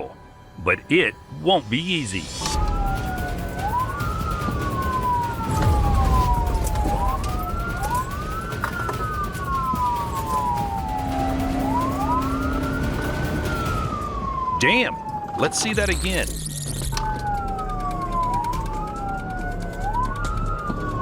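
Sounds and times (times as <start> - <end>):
police siren wailing: 0.0 - 21.0.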